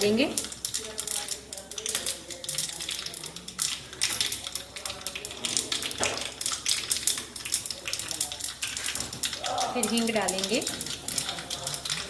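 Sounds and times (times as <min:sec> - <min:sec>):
seeds crackling in hot oil: 0:00.0 - 0:12.0.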